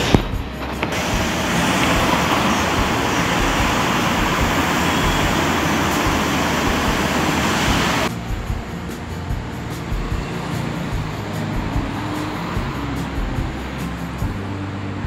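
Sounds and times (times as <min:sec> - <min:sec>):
road traffic driving past: 0:00.0 - 0:15.0.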